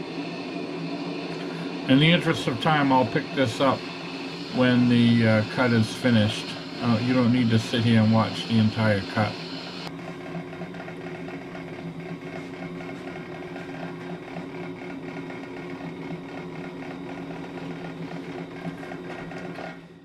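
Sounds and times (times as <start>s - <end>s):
brake lathe motor hum: 0.0s - 20.0s.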